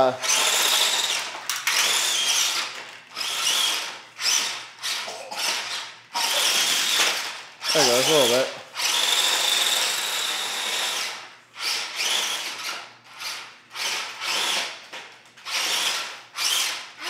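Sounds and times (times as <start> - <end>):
toy truck motor whining: 0.2 - 17.0.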